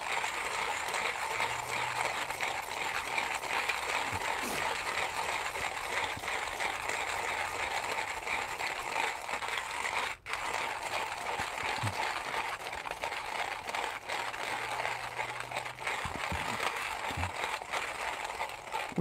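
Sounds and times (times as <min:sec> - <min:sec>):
hand coffee grinder grinding beans: 0:00.0 - 0:19.0.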